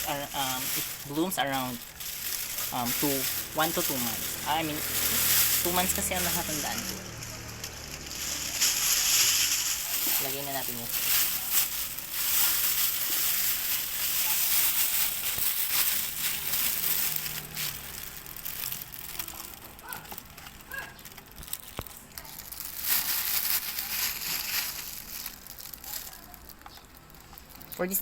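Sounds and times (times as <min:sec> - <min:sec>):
faint crackles: 0:00.0 - 0:28.0.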